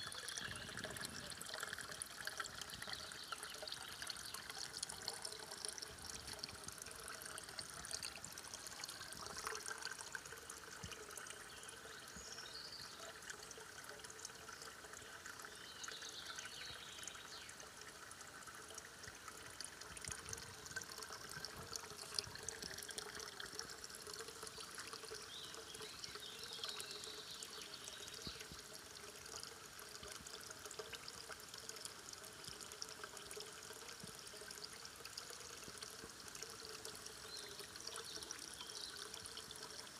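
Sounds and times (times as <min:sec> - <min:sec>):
water trickling from spring: 0:00.0 - 0:39.9.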